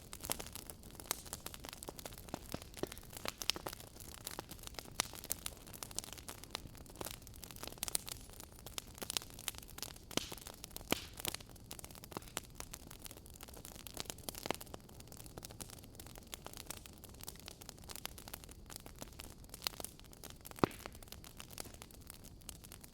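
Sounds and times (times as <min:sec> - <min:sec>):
fireplace crackling: 0:00.0 - 0:22.9.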